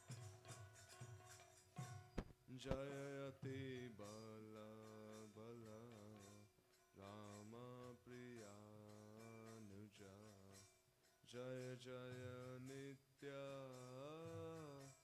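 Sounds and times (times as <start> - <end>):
man singing slow devotional song: 2.4 - 15.0.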